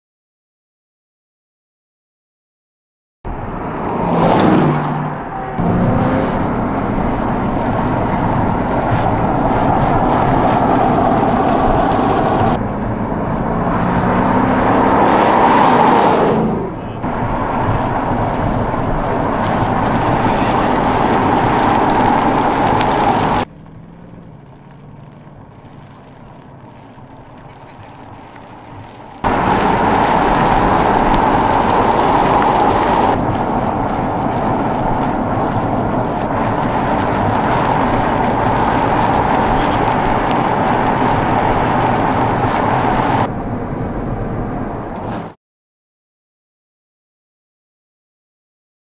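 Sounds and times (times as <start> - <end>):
car engine and road noise: 3.2 - 45.4.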